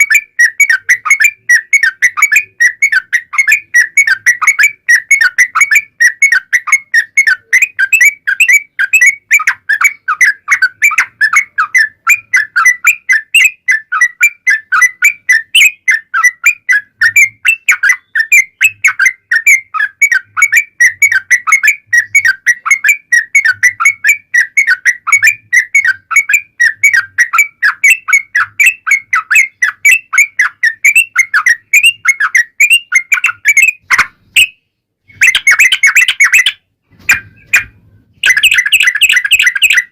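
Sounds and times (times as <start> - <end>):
bird song fast whistled chatter: 0.0 - 39.9.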